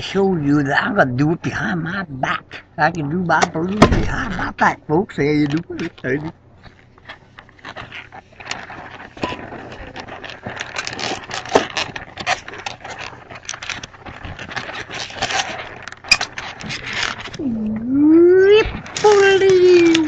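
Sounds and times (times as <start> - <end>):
balloon squeaking and creaking: 3.3 - 20.0.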